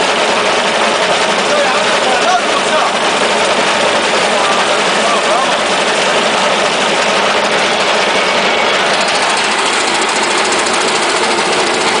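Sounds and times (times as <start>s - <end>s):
wood chipper running: 0.0s - 12.0s.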